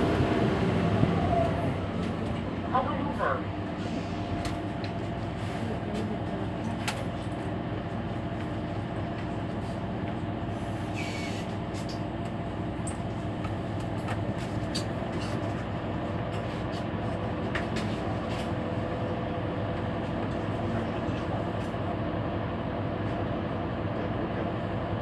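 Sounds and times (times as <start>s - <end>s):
bus engine idling: 0.0s - 25.0s.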